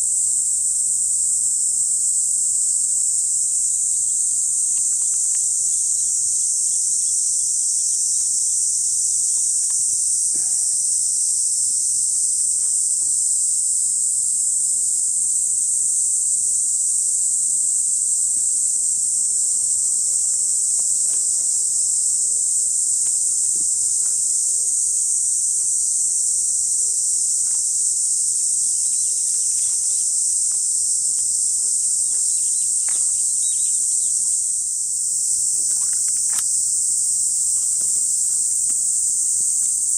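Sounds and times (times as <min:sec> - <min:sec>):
night insects chorus: 0:00.0 - 0:39.9.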